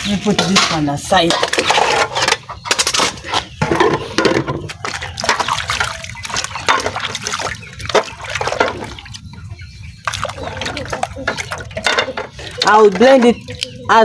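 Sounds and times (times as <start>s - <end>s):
water splashing and trickling: 0.0s - 14.0s
knocks and clatter: 0.3s - 9.0s, 10.1s - 13.4s.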